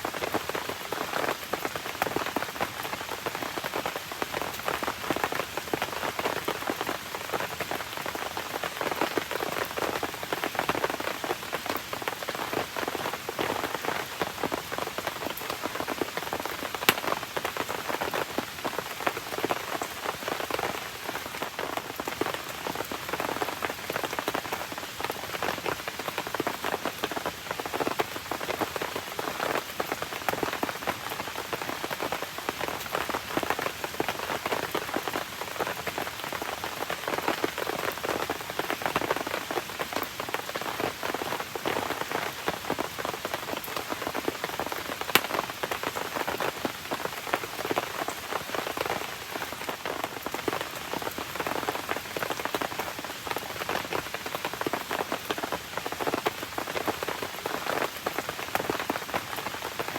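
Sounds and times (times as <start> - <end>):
steady rain falling: 0.0 - 59.9
crackling campfire: 0.1 - 30.6, 32.6 - 53.8.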